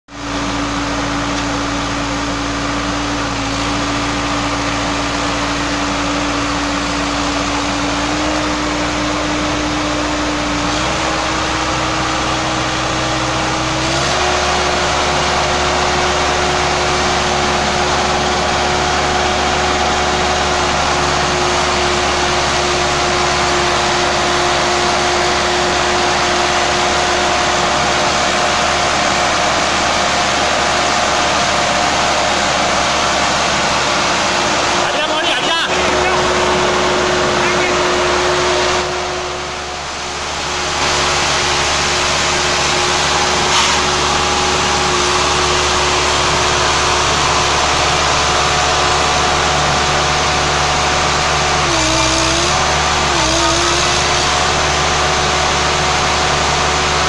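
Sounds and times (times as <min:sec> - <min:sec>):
tractor diesel engine straining: 0:00.1 - 0:57.0.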